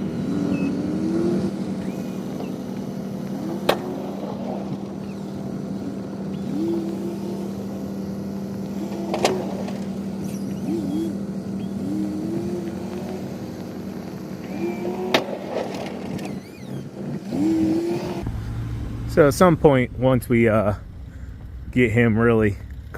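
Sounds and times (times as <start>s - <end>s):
hydraulic pump whining: 0.0s - 19.5s
truck engine running: 0.0s - 22.9s.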